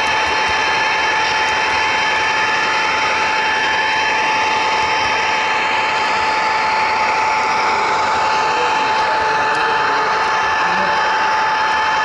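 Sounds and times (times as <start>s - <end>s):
high-pitched whine: 0.0s - 12.0s
model train wheels whirring: 0.0s - 12.0s.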